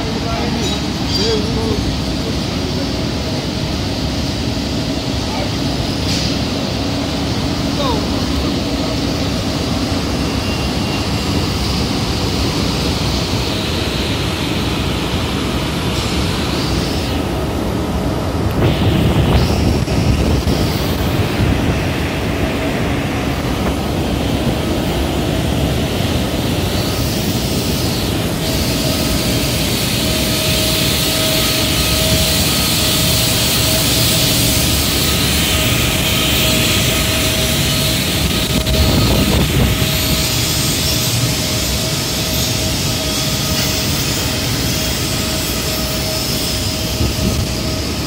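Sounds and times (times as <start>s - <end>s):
machinery roar: 0.0s - 48.0s
thin steady whine: 0.0s - 48.0s.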